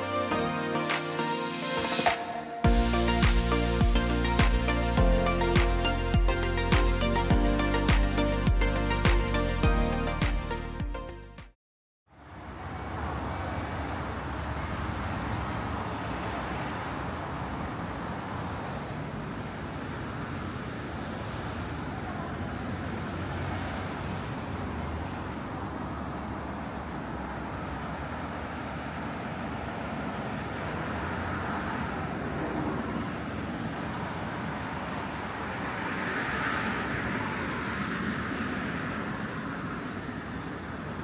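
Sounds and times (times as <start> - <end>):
vehicles passing: 0.0 - 11.2, 12.1 - 41.0
road traffic noise: 0.0 - 11.3, 12.1 - 41.0.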